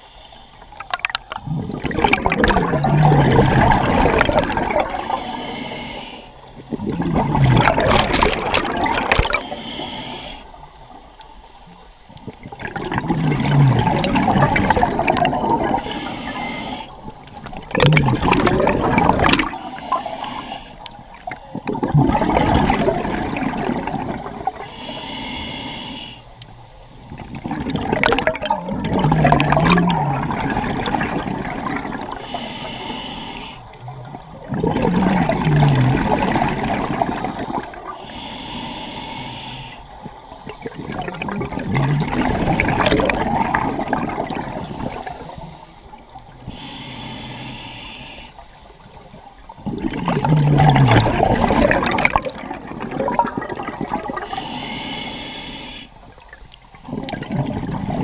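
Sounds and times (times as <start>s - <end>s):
regulator bubbles gurgling: 0.0s - 25.0s, 26.3s - 38.3s, 38.9s - 58.0s
inhaled air hiss: 0.0s - 58.0s.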